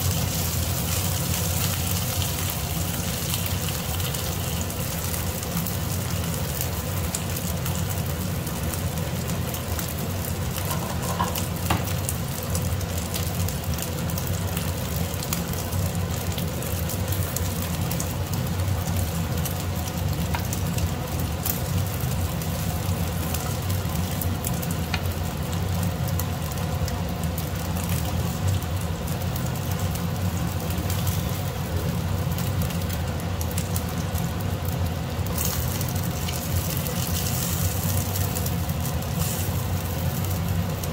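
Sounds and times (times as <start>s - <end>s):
meat sizzling in a frying pan: 0.0s - 40.9s.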